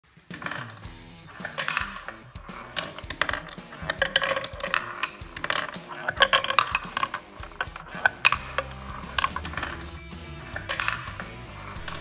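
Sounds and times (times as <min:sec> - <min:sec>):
background music: 0:00.1 - 0:12.0
ball bearings clicking and rattling: 0:00.3 - 0:12.0.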